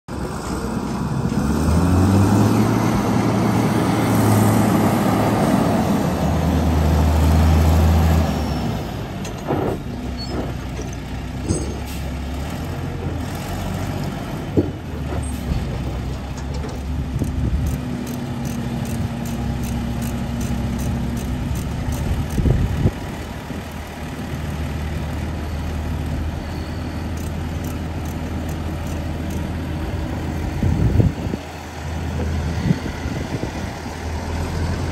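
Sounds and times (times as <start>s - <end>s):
truck diesel engine: 0.1s - 34.9s.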